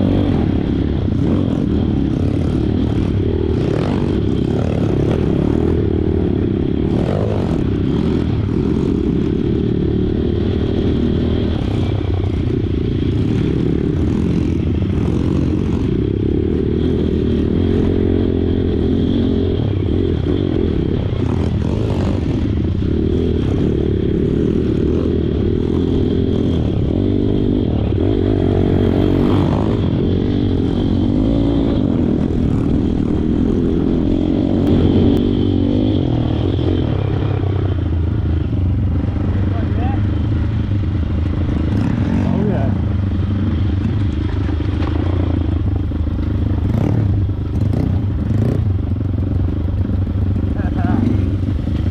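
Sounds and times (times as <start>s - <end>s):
small motorbike engine running: 0.0s - 51.9s.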